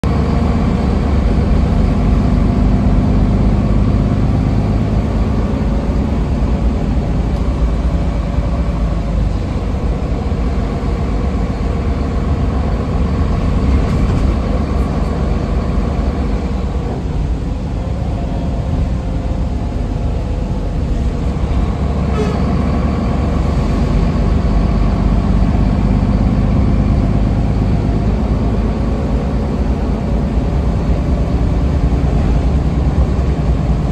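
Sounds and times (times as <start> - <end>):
bus engine and road rumble: 0.0 - 33.9.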